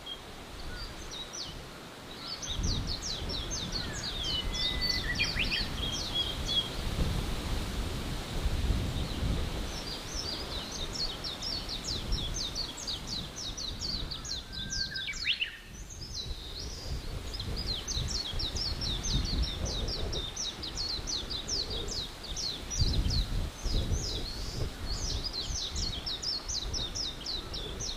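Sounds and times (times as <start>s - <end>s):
songbird chirping: 0.0s - 7.0s, 8.8s - 27.9s.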